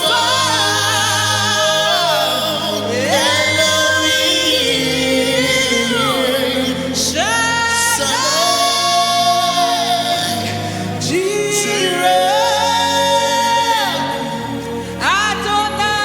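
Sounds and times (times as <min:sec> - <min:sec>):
sustained backing chords: 0:00.0 - 0:16.0.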